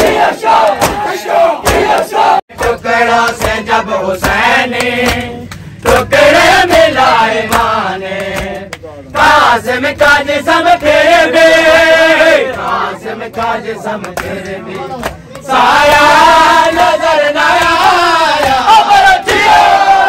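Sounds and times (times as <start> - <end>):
crowd shouting a chant: 0.0 - 20.0
men chanting a lament: 0.0 - 20.0.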